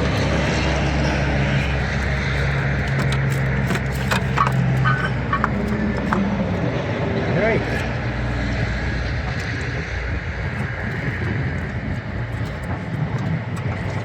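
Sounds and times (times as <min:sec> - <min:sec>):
engine drone: 0:00.0 - 0:14.0.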